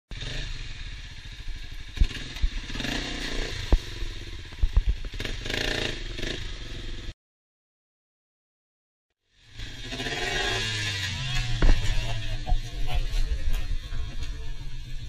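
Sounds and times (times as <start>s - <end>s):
engine running: 0.1s - 7.1s, 9.3s - 15.0s.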